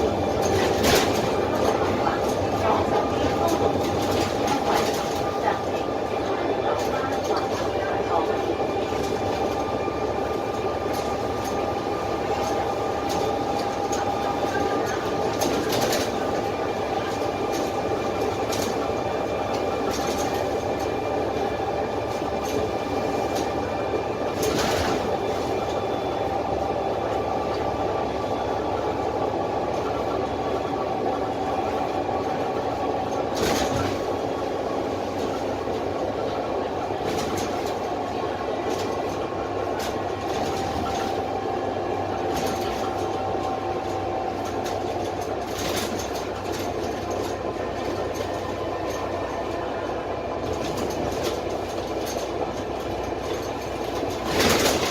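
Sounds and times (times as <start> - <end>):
bus body rattles: 0.0 - 54.9
bus diesel engine drone: 0.0 - 54.9.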